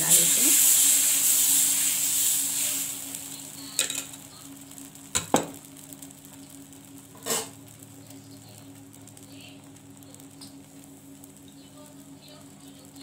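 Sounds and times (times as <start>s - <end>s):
batter sizzling on hot pan: 0.0s - 13.0s.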